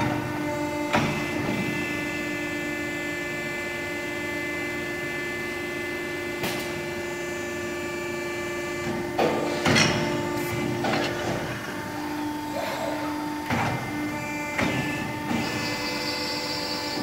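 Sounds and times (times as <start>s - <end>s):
machine motor hum: 0.0s - 17.0s.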